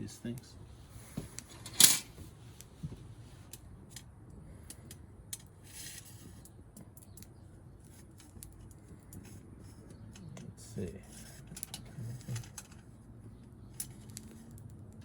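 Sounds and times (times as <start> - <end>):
small wood fire crackling: 0.0 - 15.0.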